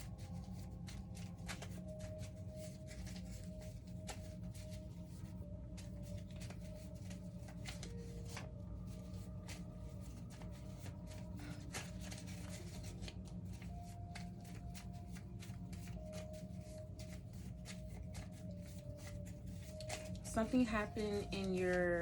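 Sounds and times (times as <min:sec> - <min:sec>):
cards being shuffled: 0:00.0 - 0:21.9.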